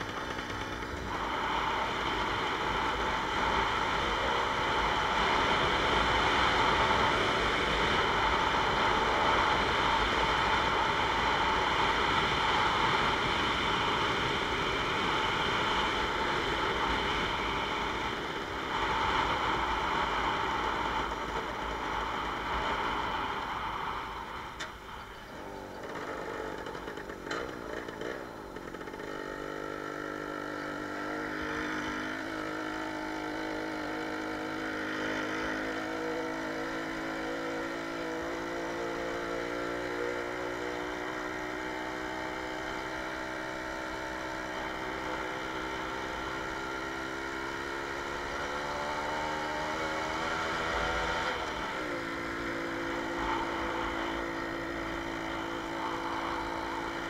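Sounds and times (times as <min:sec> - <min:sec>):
moped engine running: 0:00.0 - 0:57.0.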